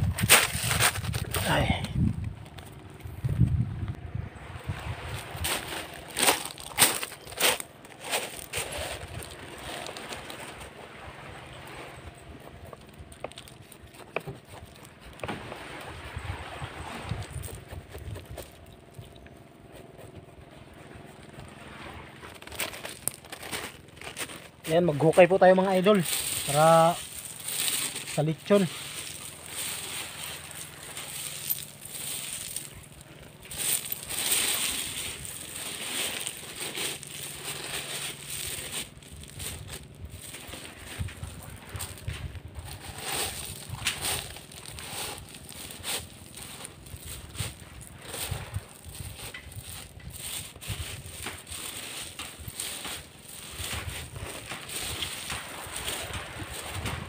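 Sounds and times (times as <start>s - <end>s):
shovel scraping and crunching earth: 0.0s - 2.0s, 4.8s - 15.8s, 16.4s - 57.0s.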